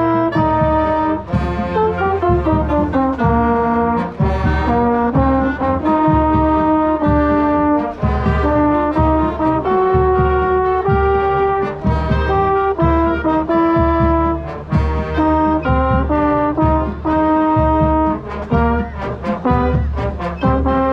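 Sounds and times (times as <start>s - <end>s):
low bass line: 0.0s - 20.9s
marching band brass playing: 0.0s - 20.9s.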